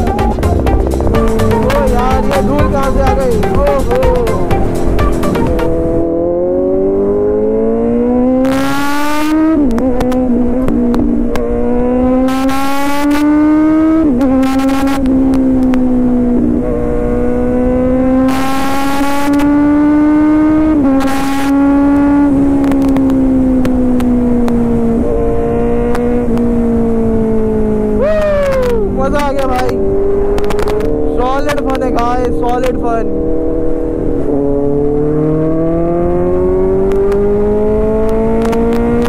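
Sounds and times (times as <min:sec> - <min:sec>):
motorcycle engine accelerating: 0:00.0 - 0:39.0
rushing wind noise: 0:00.0 - 0:39.0.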